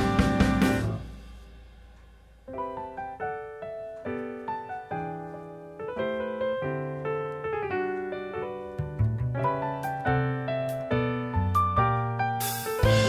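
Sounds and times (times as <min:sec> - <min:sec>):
piano music: 0:00.0 - 0:01.4, 0:02.4 - 0:13.0.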